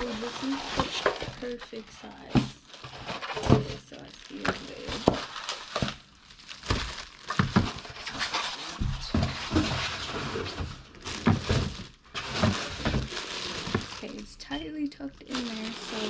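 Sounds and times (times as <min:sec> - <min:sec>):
cardboard packing rustling and scraping: 0:00.0 - 0:16.0.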